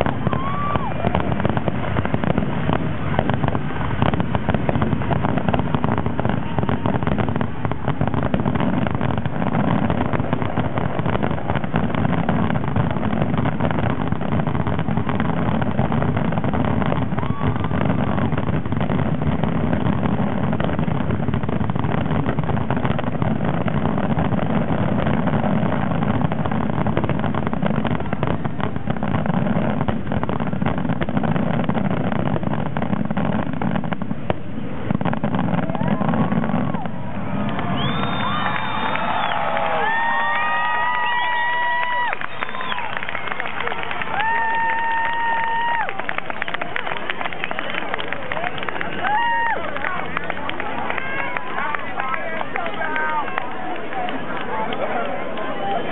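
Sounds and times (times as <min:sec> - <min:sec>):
firework whistle: 0:00.0 - 0:49.9
fireworks barrage: 0:00.0 - 0:55.9.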